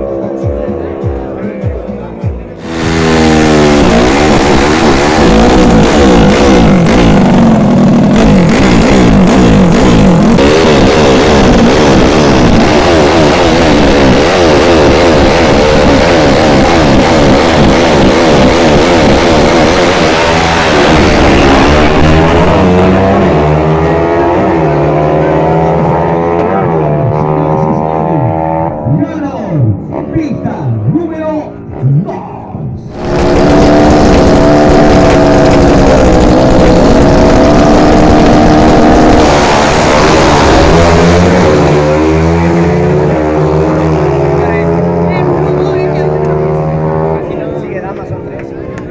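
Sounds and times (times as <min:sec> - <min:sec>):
motorcycle engine revving: 0:00.0 - 0:30.2, 0:32.9 - 0:48.9.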